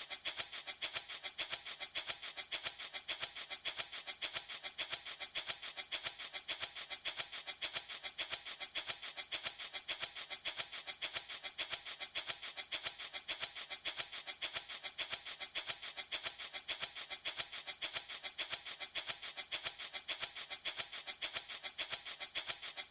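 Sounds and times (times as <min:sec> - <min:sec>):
baby rattle shaking: 0:00.0 - 0:22.9.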